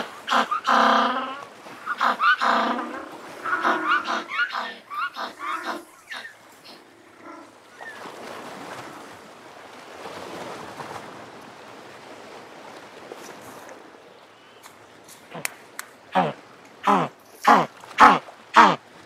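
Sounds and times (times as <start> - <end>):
surf washing: 0.0 - 19.0.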